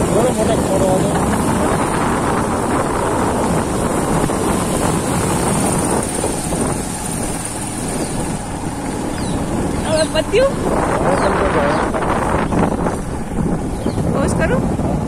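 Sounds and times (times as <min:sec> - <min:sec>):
tyres swishing through water: 0:00.0 - 0:15.0
wind buffeting microphone: 0:00.0 - 0:15.0.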